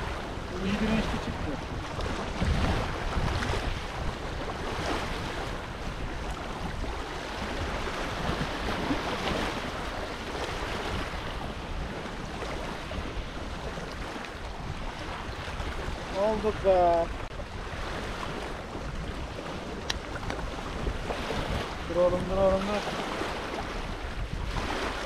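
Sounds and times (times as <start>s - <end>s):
small waves rushing: 0.0s - 25.0s
wind buffeting microphone: 0.0s - 25.0s.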